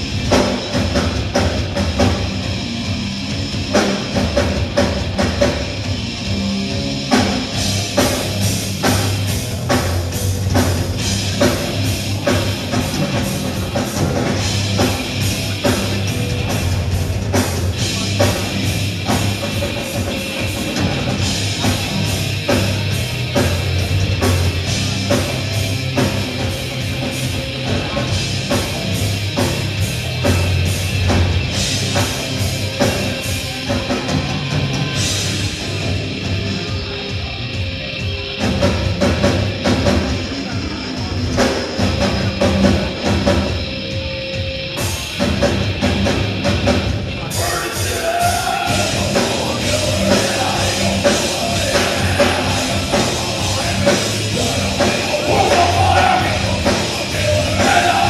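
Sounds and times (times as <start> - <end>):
bass guitar: 0.0 - 58.0
distorted electric guitars: 0.0 - 58.0.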